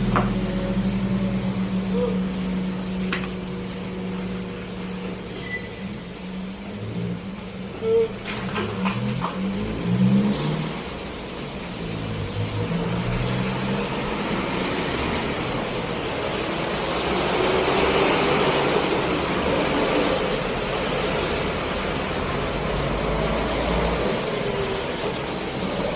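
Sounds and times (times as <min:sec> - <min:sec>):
motor vehicle running: 0:00.0 - 0:25.9.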